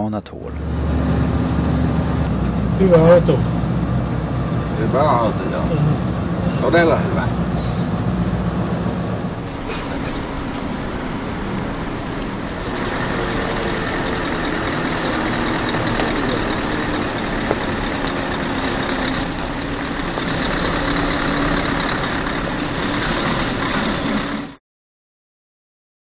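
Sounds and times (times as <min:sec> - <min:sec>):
diesel truck engine running: 0:00.2 - 0:24.6
tyre and road noise: 0:00.4 - 0:24.6.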